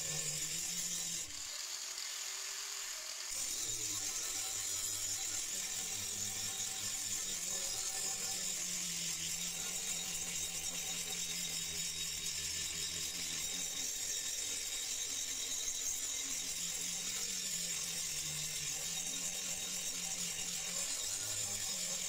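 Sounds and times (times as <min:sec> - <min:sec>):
angle grinder grinding steel: 0:00.0 - 0:22.0.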